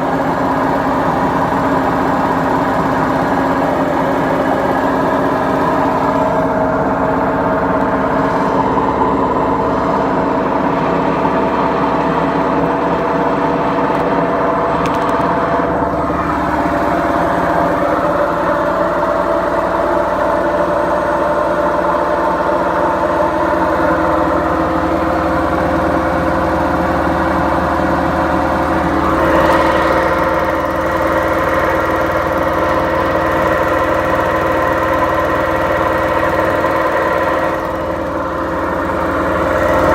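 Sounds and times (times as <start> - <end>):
washing machine drum drone: 0.0 - 39.9.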